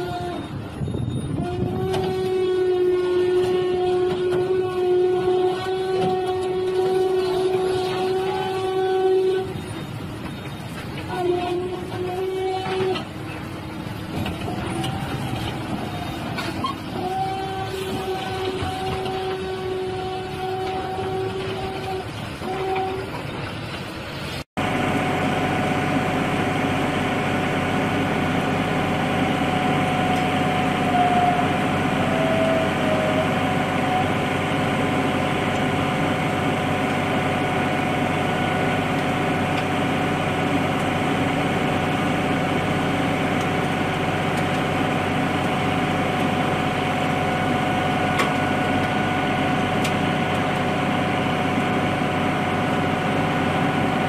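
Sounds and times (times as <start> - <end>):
engine idling with whine: 0.0 - 54.0.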